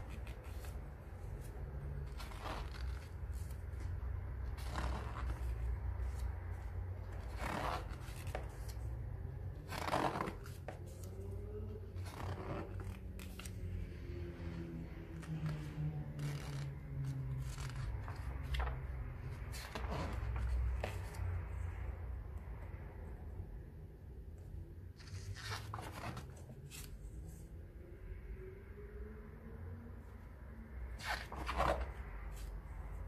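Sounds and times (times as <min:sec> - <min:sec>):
book pages turning: 0:00.0 - 0:21.9, 0:24.9 - 0:27.4, 0:30.9 - 0:33.0.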